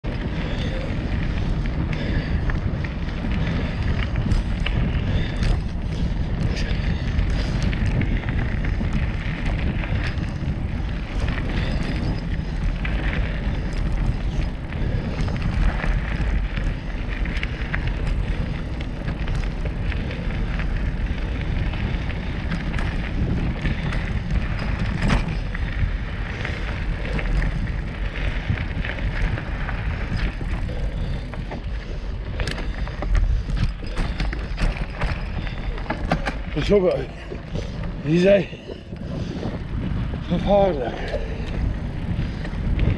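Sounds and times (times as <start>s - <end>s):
wind buffeting microphone: 0.0s - 42.9s
bike knocks and rattles: 0.1s - 42.9s
tyres rolling over dirt: 0.1s - 42.9s.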